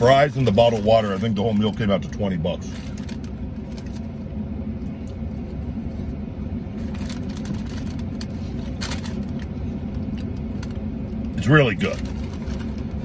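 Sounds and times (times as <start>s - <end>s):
vehicle idling rumble: 0.0s - 13.0s.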